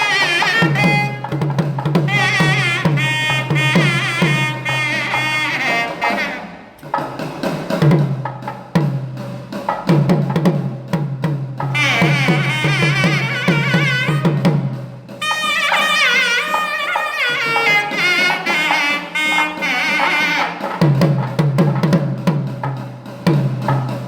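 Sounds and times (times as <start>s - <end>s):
steady drum beat: 0.0s - 24.0s.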